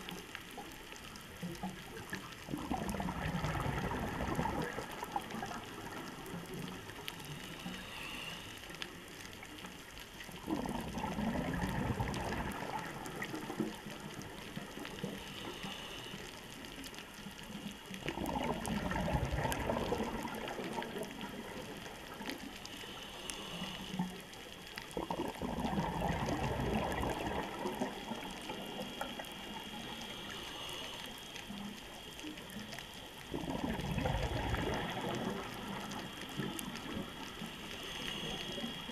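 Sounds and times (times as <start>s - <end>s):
steady underwater hiss: 0.0s - 38.9s
underwater exhaled bubbles: 0.0s - 38.9s.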